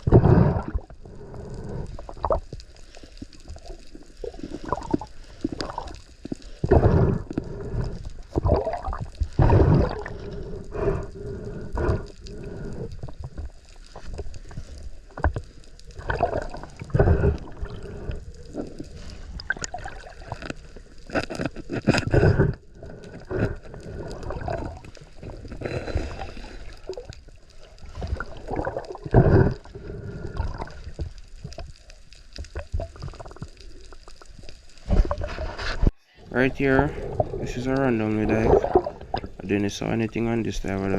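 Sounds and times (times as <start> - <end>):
water sloshing and gurgling: 0.0 - 40.9.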